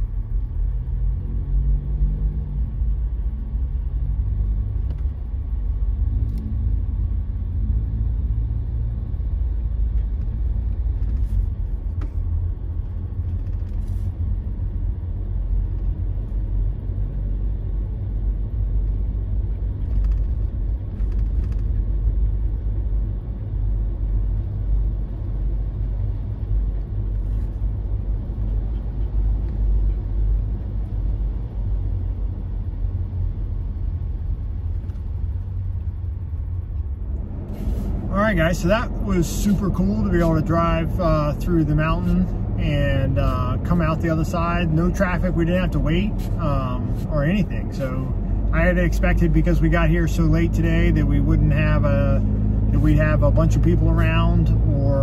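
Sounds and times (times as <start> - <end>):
vehicle engine and tyres rumbling: 0.0 - 55.0.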